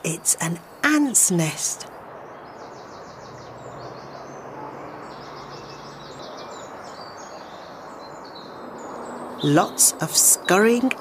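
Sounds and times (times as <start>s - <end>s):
outdoor background hiss: 0.0s - 11.0s
small birds trilling: 0.1s - 11.0s.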